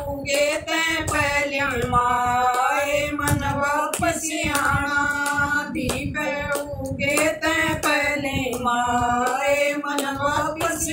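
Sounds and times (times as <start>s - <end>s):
hand claps: 0.0s - 10.9s
women singing devotional song: 0.0s - 10.9s.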